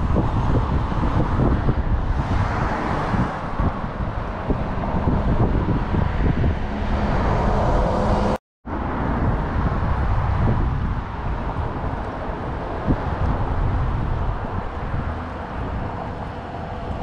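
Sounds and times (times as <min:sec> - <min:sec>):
outdoor rushing and rumbling: 0:00.0 - 0:17.0.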